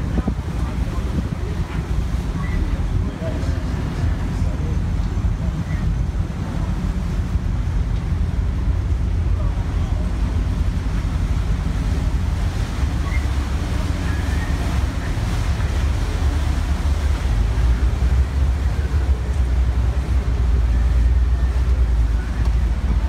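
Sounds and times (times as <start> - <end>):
boat engine rumble: 0.0 - 23.0
water washing along hull: 0.0 - 23.0
wind buffeting microphone: 0.0 - 23.0.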